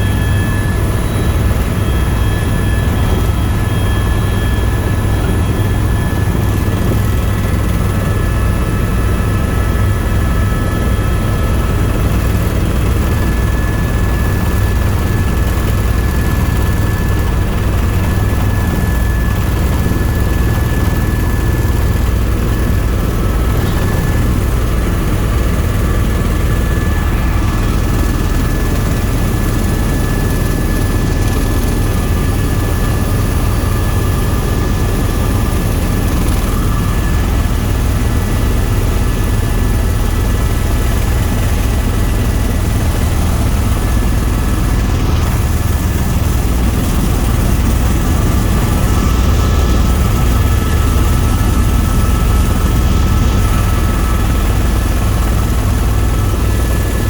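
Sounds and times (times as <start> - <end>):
faint steady whine: 0.0 - 57.0
helicopter engine and rotors: 0.0 - 57.0.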